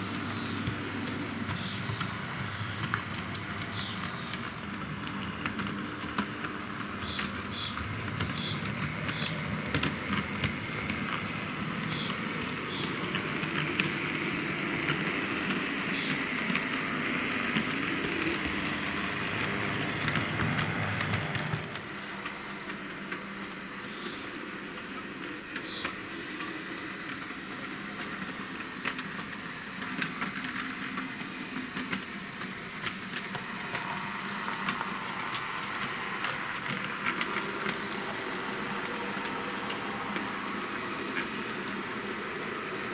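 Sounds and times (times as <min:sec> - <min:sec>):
model trams running on track: 0:00.0 - 0:42.9.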